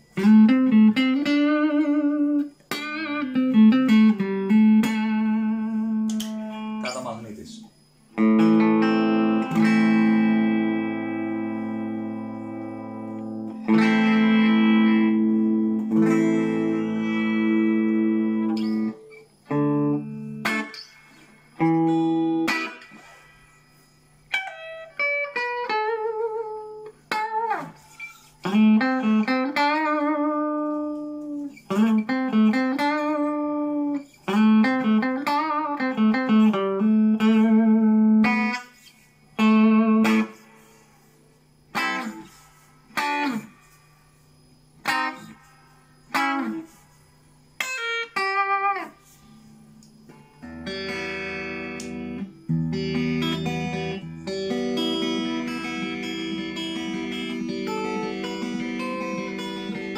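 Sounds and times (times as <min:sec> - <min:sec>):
clean electric guitar: 0:00.0 - 0:59.9.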